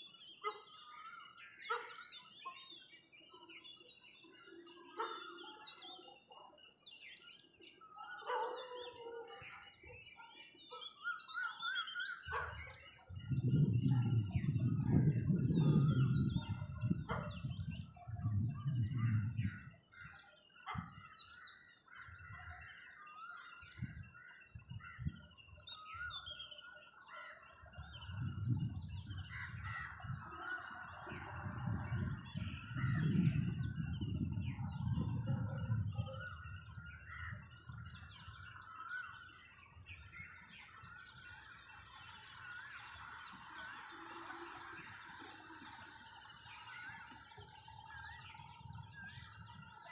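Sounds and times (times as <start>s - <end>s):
birds chirping and calling: 0.0s - 49.9s.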